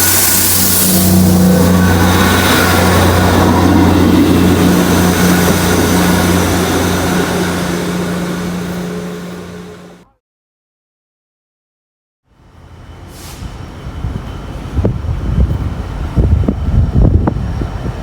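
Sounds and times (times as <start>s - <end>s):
train engine humming: 0.0s - 10.0s, 12.4s - 18.0s.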